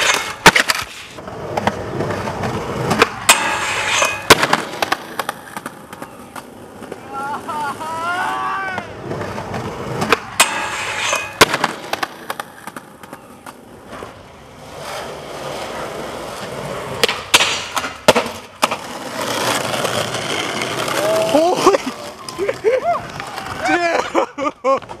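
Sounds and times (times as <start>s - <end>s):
skateboard clacking on ground: 0.0s - 25.0s
skateboard wheels rolling: 0.0s - 25.0s.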